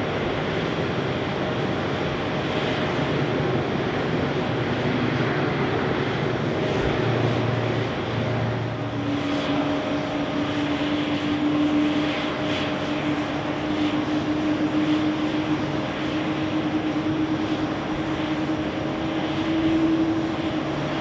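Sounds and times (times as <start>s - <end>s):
jet engine whine on takeoff: 0.0s - 21.0s
jet plane rolling out: 0.0s - 21.0s.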